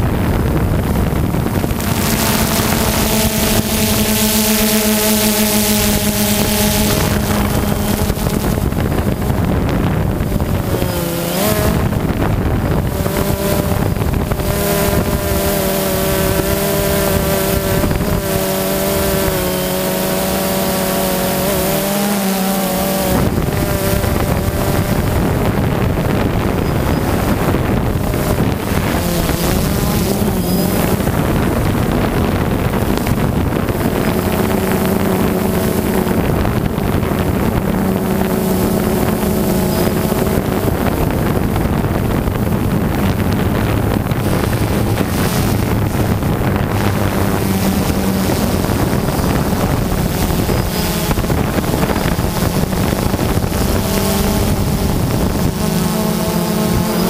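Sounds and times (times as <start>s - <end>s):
drone propellers buzzing: 0.0s - 57.0s
wind noise on microphone: 0.0s - 57.0s.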